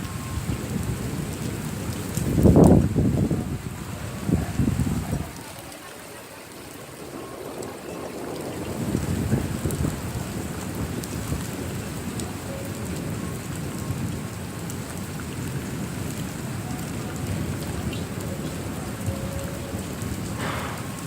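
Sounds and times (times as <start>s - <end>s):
heavy rain: 0.0s - 21.0s
low rumble of thunder: 0.0s - 21.0s.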